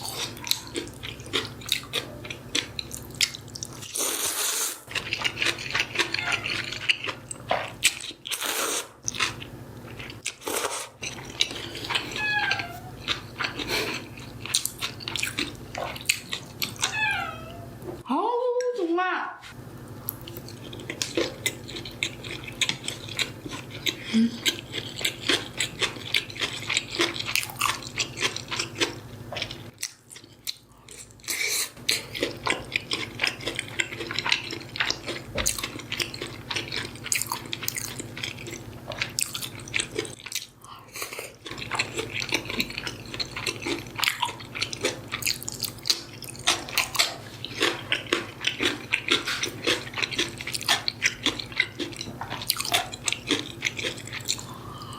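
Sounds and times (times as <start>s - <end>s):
person chewing food: 0.0s - 17.1s, 20.0s - 54.9s.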